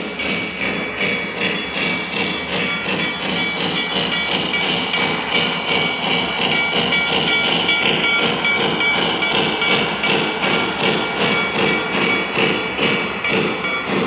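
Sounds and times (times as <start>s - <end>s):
model train rolling rumble: 0.0s - 14.0s
fast rhythmic track clicks: 0.1s - 14.0s.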